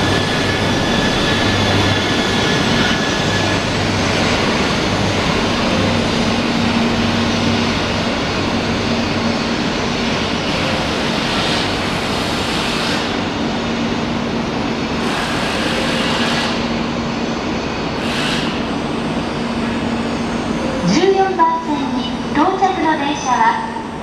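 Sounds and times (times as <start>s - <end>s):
train equipment humming: 0.0s - 24.0s.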